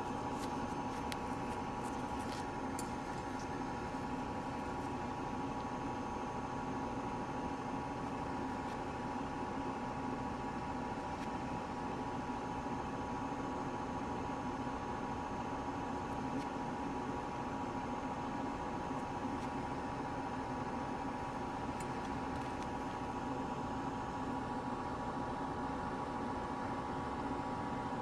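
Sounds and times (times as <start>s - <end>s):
fan hum and hiss: 0.0s - 28.0s.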